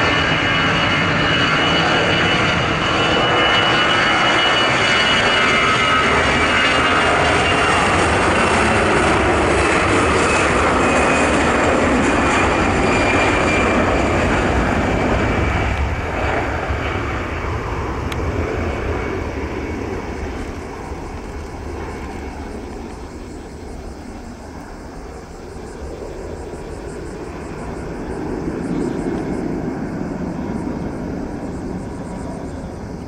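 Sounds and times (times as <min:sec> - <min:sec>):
faint high whine: 0:00.0 - 0:33.0
jet engine roar at takeoff: 0:00.0 - 0:33.0.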